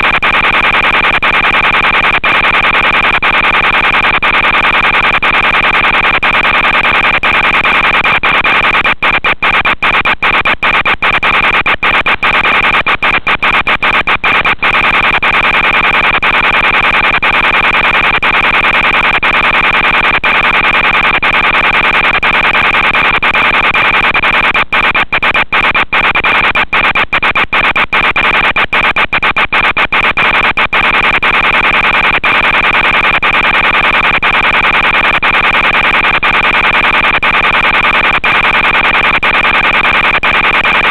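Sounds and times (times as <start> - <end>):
buzzing warbling data tone: 0.7 - 34.9.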